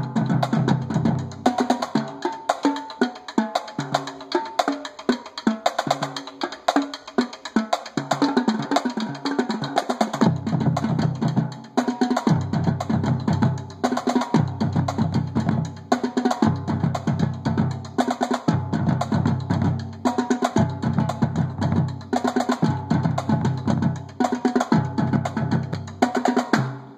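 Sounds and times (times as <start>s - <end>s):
snare and tenor drums: 0.0s - 26.9s.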